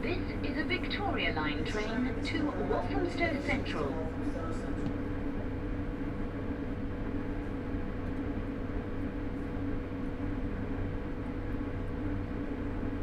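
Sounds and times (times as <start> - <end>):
train interior hum and rumble: 0.0 - 13.0.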